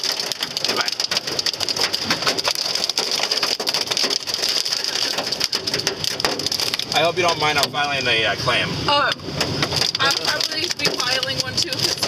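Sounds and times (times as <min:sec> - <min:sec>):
hail pelting a car: 0:00.0 - 0:12.0
heavy rain hiss: 0:00.0 - 0:12.0.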